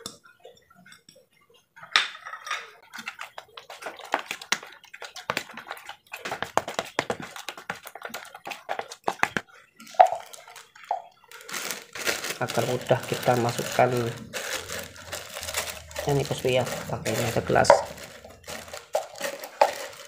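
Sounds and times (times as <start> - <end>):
spoon scraping plastic bowl: 2.8 - 20.0.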